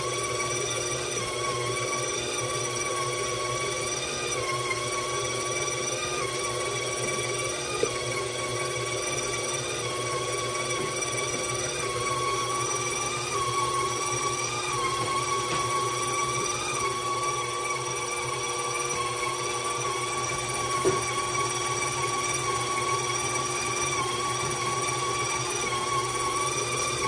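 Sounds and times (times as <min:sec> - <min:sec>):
stand mixer motor whine: 0:00.0 - 0:27.0.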